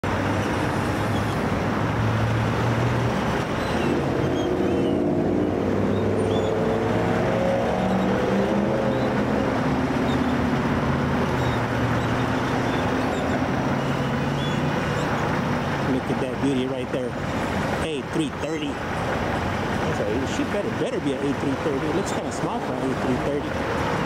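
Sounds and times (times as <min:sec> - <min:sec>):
cars passing on road: 0:00.0 - 0:24.0.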